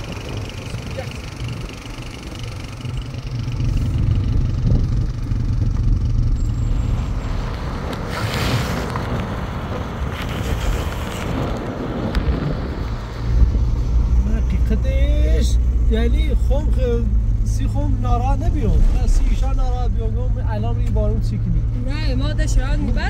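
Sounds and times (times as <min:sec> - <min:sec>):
vehicle engine and tyres on dirt road: 0:00.0 - 0:23.0.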